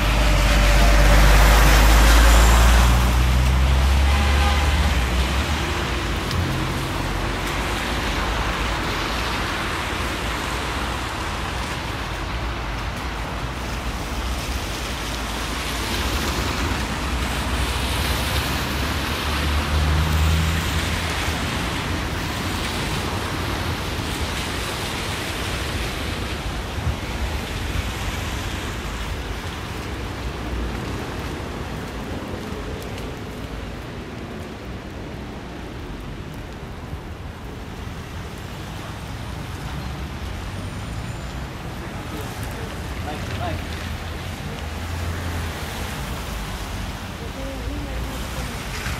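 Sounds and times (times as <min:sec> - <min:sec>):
sleet hissing on wet street: 0:00.0 - 0:48.9
tyres swishing on wet pavement: 0:00.0 - 0:48.9.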